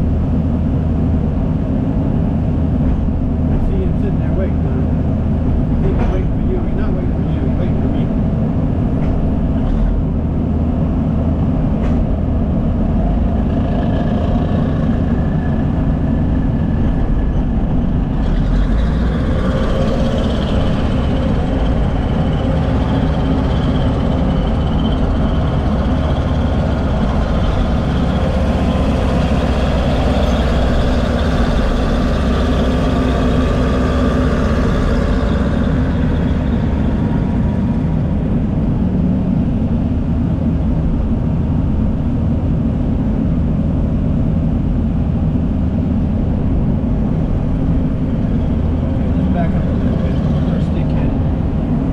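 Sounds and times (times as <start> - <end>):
diesel earthmoving machinery running: 0.0 - 51.9.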